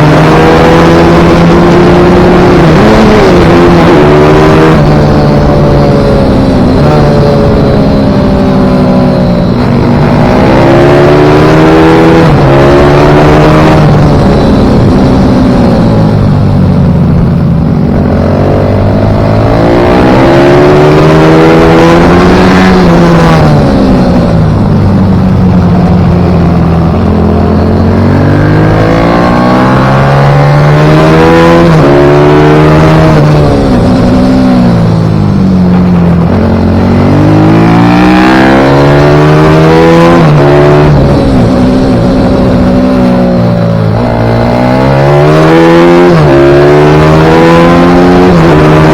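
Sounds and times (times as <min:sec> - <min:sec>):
pit bike engine revving: 0:00.0 - 0:48.9.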